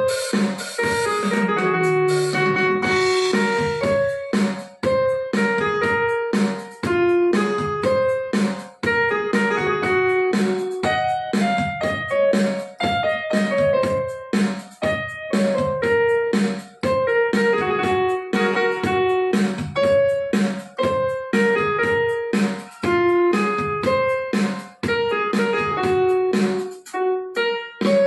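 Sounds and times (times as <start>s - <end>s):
electronic keyboard melody: 0.0s - 28.0s.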